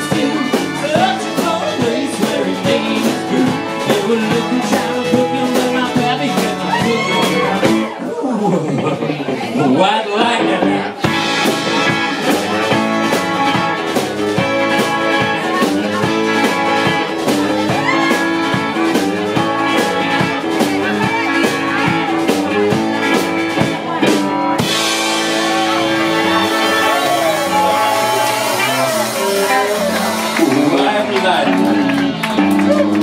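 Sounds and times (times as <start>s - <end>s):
drum kit beat: 0.0s - 8.0s, 11.0s - 33.0s
country band playing: 0.0s - 33.0s.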